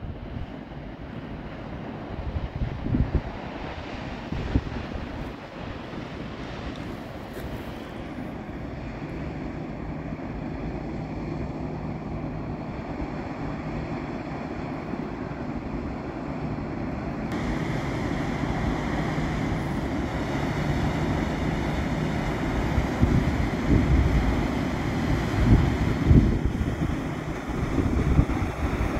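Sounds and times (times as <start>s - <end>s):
barge engine humming: 0.0s - 28.9s
wind noise on microphone: 0.0s - 28.9s.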